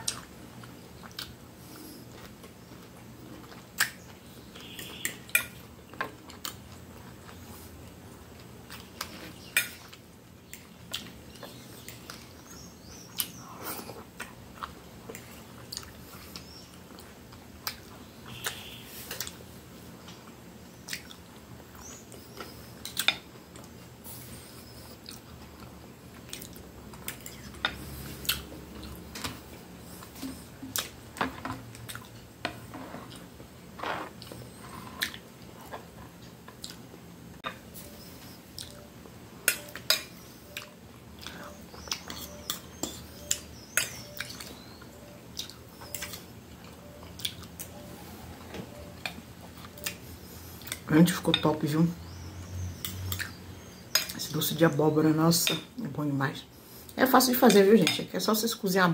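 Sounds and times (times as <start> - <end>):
chewing: 0.0 - 19.4, 20.1 - 37.6, 38.2 - 50.9, 52.8 - 54.2.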